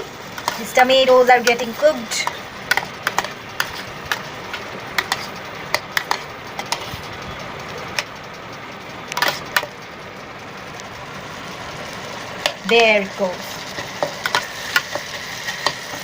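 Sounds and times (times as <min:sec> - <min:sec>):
tomatoes sizzling in butter: 0:00.0 - 0:16.0.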